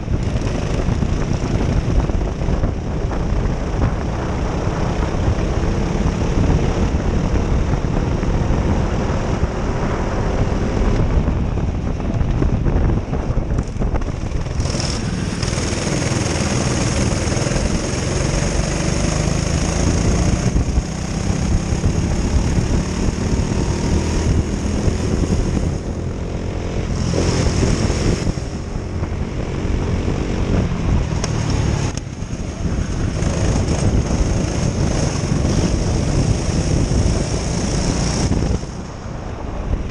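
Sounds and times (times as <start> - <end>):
kart engines at racing speed: 0.0 - 39.9.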